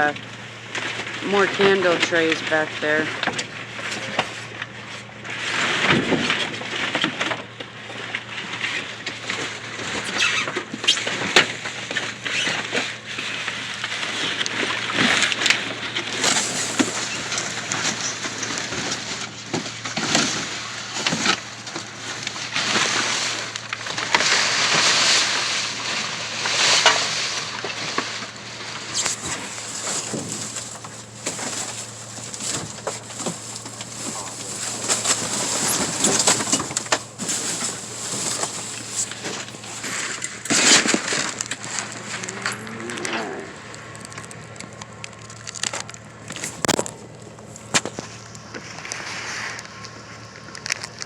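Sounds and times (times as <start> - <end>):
plastic and cardboard rustling: 0.0 - 51.0
steady low hum: 0.0 - 51.0.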